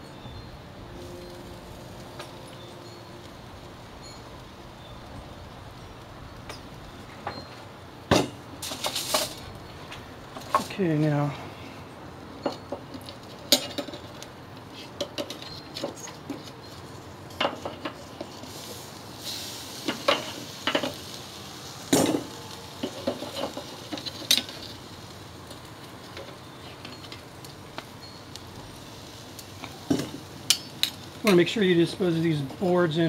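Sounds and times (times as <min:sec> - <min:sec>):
faint sizzle: 0:00.0 - 0:33.0
tongs scraping grill grate: 0:00.9 - 0:11.8, 0:12.4 - 0:33.0.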